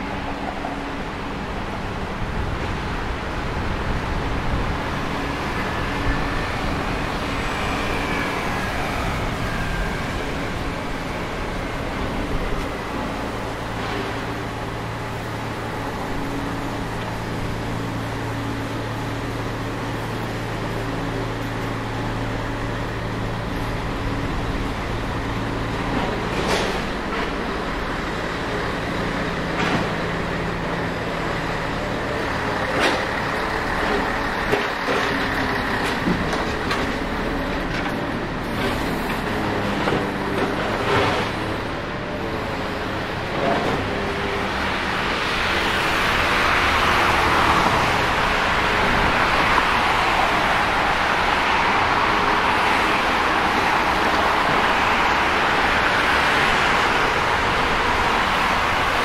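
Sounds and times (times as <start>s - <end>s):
traffic engines passing: 0.0s - 59.0s.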